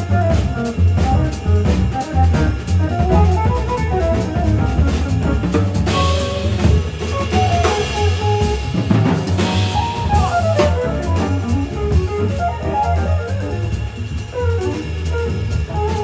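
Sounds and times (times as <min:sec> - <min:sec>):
bass: 0:00.0 - 0:16.0
drum kit with cymbals: 0:00.0 - 0:16.0
piano: 0:00.0 - 0:16.0.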